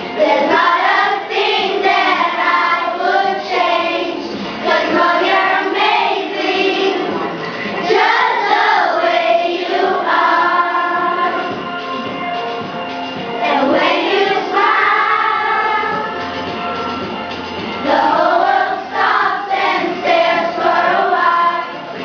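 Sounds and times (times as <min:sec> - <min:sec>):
children's choir singing: 0:00.0 - 0:11.8, 0:13.3 - 0:16.6, 0:17.8 - 0:22.0.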